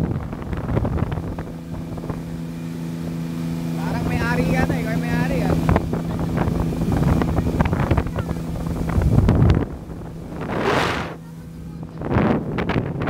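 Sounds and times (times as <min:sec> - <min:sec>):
speedboat engine running: 0:00.0 - 0:13.0
wind rushing over microphone: 0:00.0 - 0:13.0.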